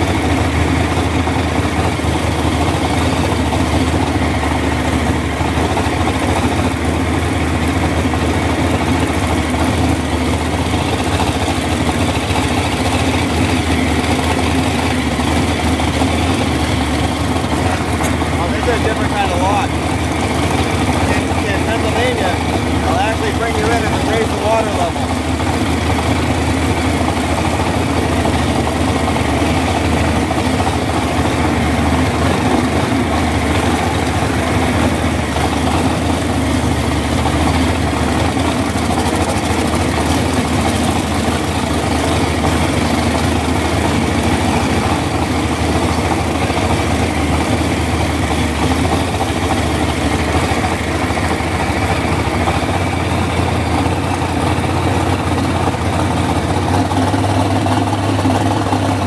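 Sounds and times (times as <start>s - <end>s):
boat engine idling: 0.0s - 59.0s.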